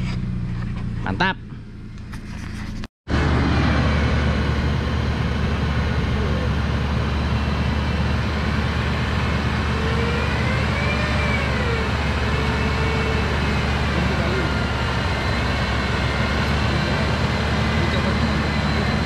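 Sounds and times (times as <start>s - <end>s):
vehicle engine under load: 0.0s - 19.0s
vehicle rumbling over track: 0.0s - 19.0s.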